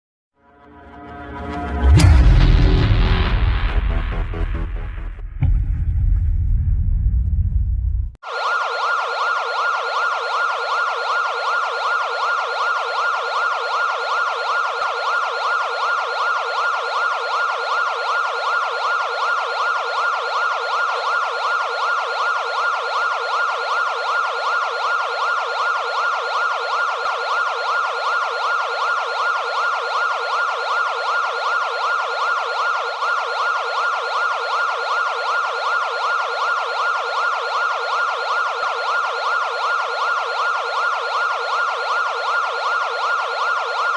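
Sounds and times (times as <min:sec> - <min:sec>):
emergency siren yelping: 0:08.2 - 0:43.9.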